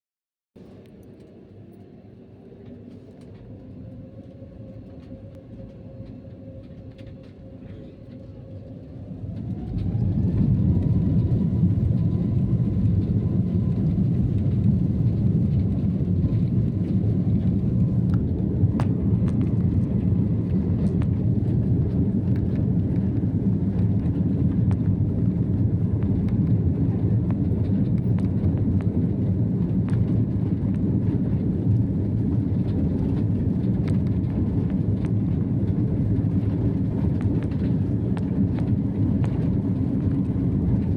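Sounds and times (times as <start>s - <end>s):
jet engines spooling up: 0.6s - 40.9s.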